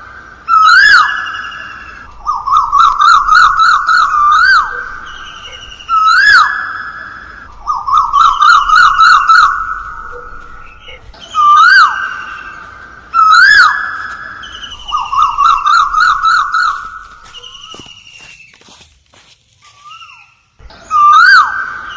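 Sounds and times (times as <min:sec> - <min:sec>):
bird singing whistled phrases: 0:00.5 - 0:18.6, 0:19.7 - 0:21.9.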